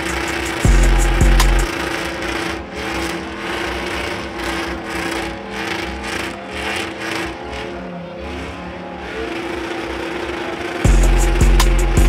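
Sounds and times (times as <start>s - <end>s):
truck engine revving hard: 0.0s - 12.0s
tyres spinning: 0.0s - 12.0s.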